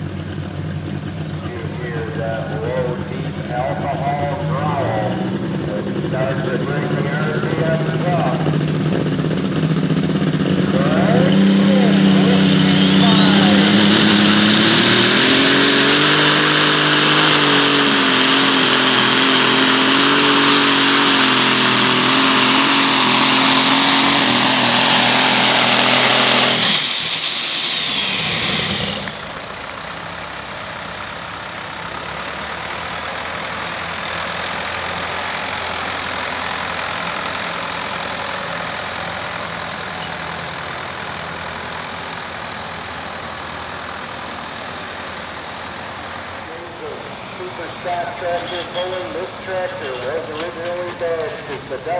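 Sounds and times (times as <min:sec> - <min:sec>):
diesel tractor engine at full throttle: 0:00.0 - 0:51.9
high turbo whine: 0:00.0 - 0:51.9.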